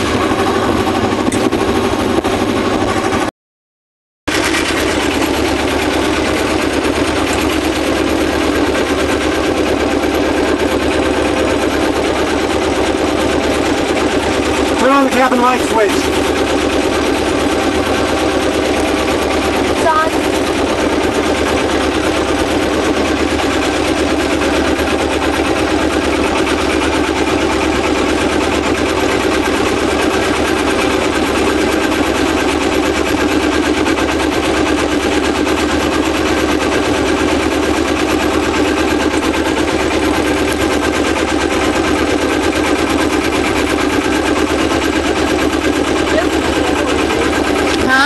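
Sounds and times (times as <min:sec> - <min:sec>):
boat engine running: 0:00.0 - 0:03.3, 0:04.3 - 0:48.0.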